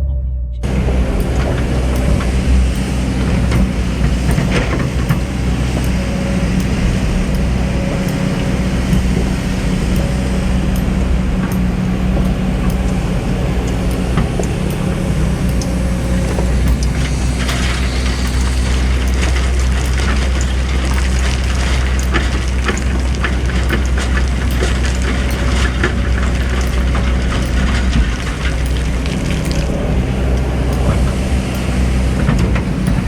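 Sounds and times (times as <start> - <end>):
excavator diesel engine humming: 0.0 - 33.0.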